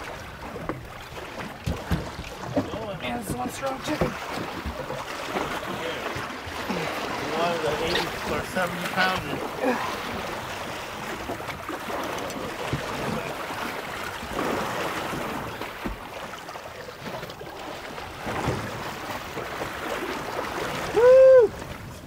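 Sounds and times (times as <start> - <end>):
sea noise: 0.0 - 22.0
wind: 0.0 - 22.0.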